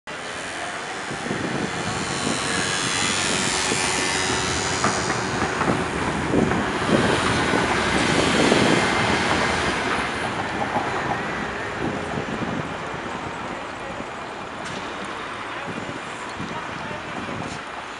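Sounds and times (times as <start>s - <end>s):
tram wheels clacking over rails: 0.2s - 16.9s.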